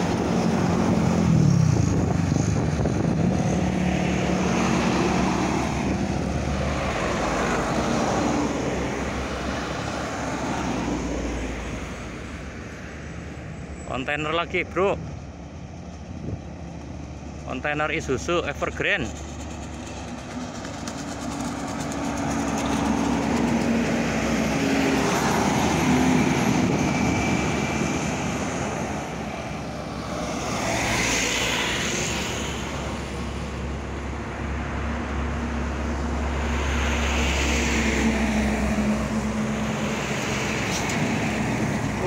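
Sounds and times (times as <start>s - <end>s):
diesel trucks driving past: 0.0s - 42.0s.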